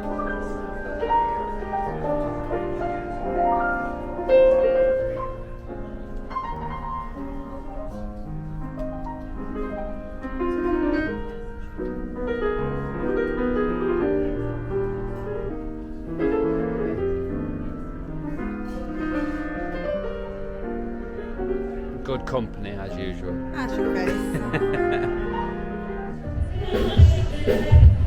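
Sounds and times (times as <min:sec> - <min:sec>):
piano playing chords and melody: 0:00.0 - 0:28.0.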